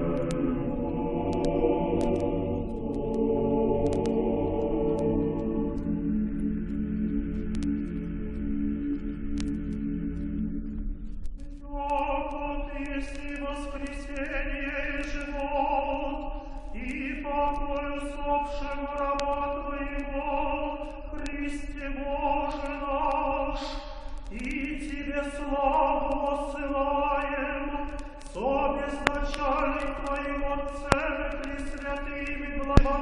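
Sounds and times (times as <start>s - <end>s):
liturgical chant with long held notes: 0.0s - 10.6s, 11.6s - 33.0s.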